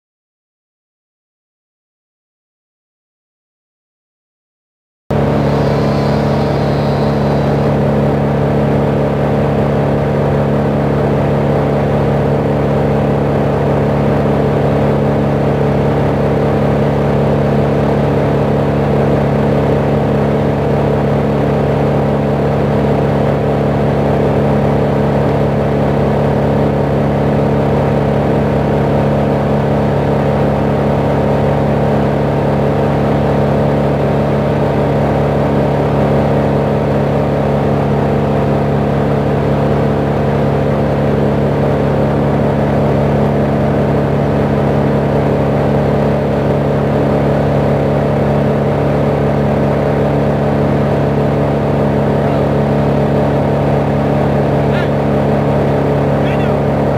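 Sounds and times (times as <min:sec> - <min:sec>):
crane truck engine running: 0:05.1 - 0:56.9.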